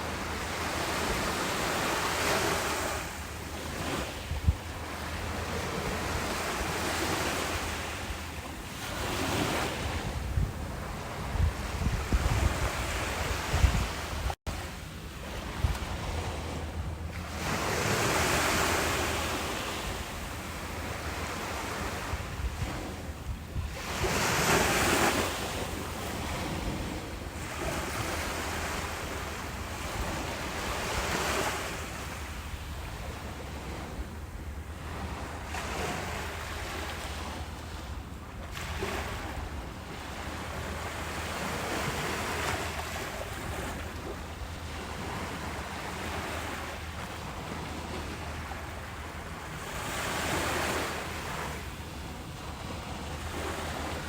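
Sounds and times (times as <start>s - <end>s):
ocean waves breaking: 0.0s - 54.0s
wind on microphone: 0.0s - 54.0s.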